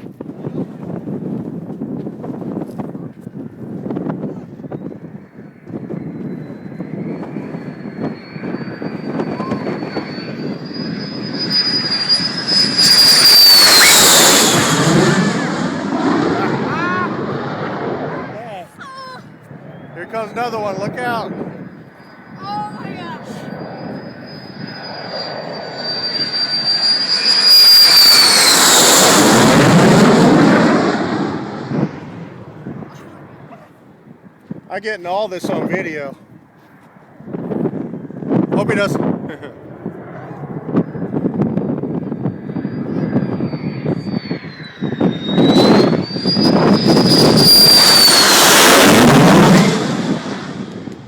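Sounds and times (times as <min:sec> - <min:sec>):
jet roar with deep rumble: 0:00.0 - 0:51.0
jet turbine whine: 0:00.0 - 0:51.0.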